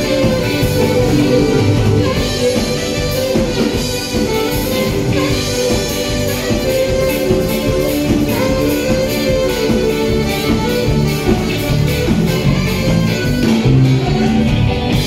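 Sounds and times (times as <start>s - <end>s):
drums: 0.0s - 15.0s
electric guitar: 0.0s - 15.0s
saxophone: 0.0s - 15.0s.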